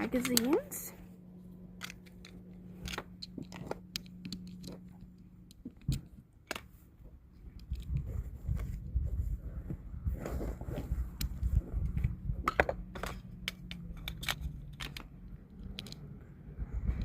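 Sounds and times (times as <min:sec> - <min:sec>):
low rumbling handling noise: 0:00.0 - 0:17.0.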